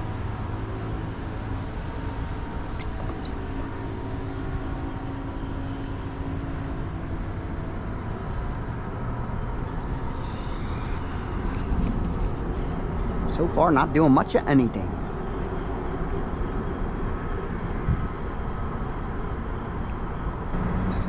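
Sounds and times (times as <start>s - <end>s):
low drone of engines: 0.0s - 21.0s.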